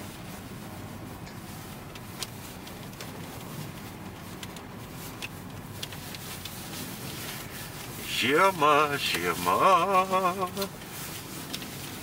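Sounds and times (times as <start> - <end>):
car engine and tyres droning: 0.0 - 12.0.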